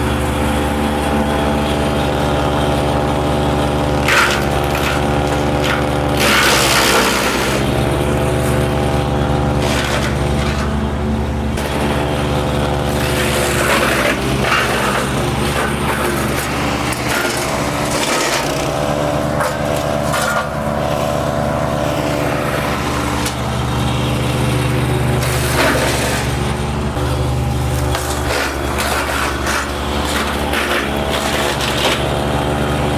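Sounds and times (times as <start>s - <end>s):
wood chipper engine running: 0.0s - 32.9s
wood grinding and crackling: 0.0s - 32.9s.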